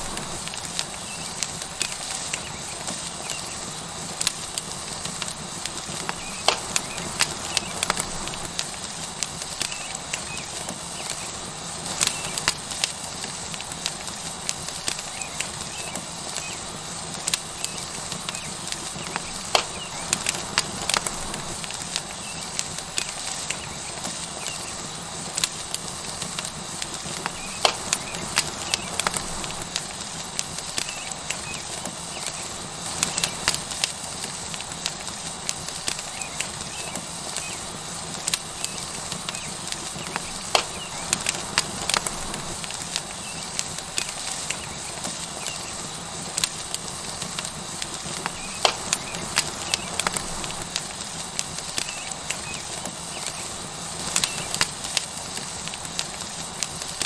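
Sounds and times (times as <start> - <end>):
burning wood crackling and popping: 0.0 - 57.0
steak sizzling on hot rock: 0.0 - 57.0.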